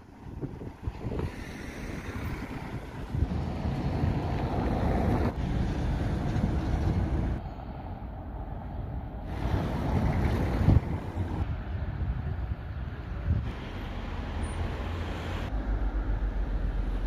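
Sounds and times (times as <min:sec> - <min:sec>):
wind rumbling on microphone: 0:00.0 - 0:14.3
street ambience: 0:00.0 - 0:17.0.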